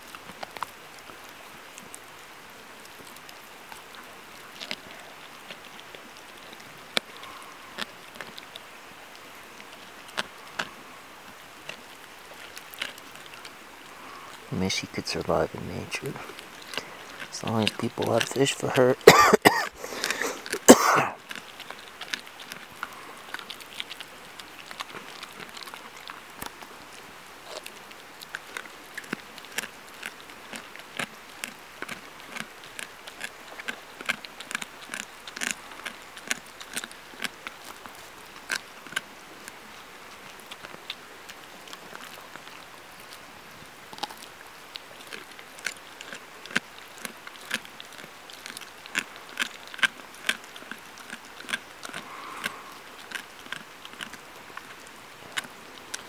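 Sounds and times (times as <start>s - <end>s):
dog chewing fish: 2.8s - 56.0s.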